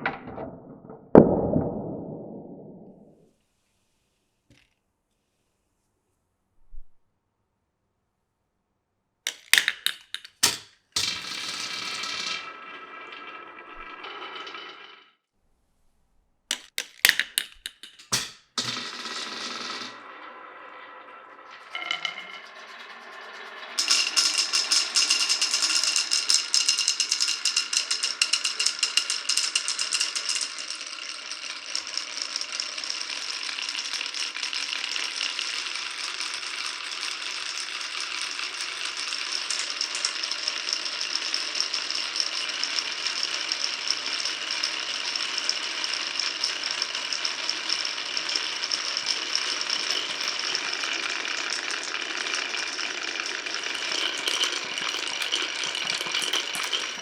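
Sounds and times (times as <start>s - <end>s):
marbles rattling down wooden run: 9.3s - 15.0s, 16.5s - 57.0s.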